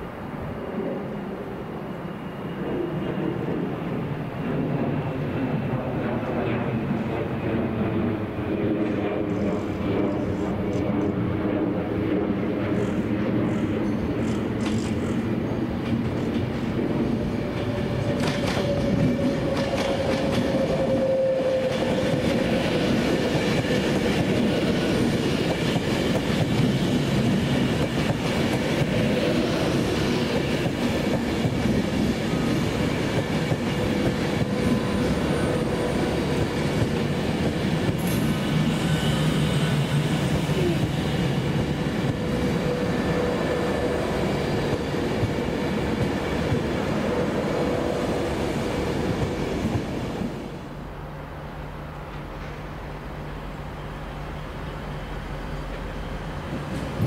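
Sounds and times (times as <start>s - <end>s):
passenger train passing: 0.0s - 57.0s.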